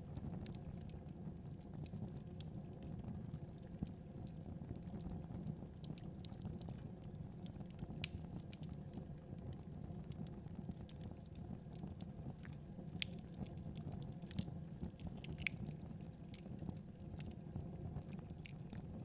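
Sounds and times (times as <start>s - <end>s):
fire crackles and pops: 0.0s - 19.0s
wood fire rumble: 0.0s - 19.0s.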